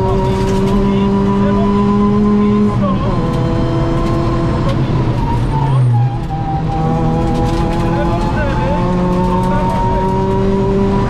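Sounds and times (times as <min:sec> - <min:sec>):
car engine pulling hard: 0:00.0 - 0:11.0.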